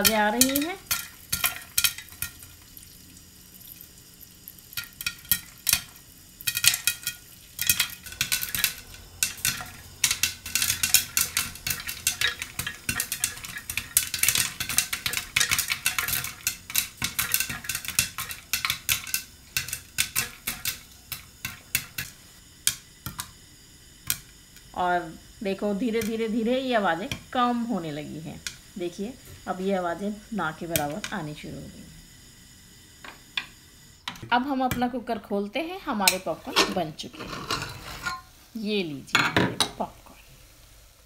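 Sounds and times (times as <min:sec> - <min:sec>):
popcorn popping in a pot: 0:00.0 - 0:40.2.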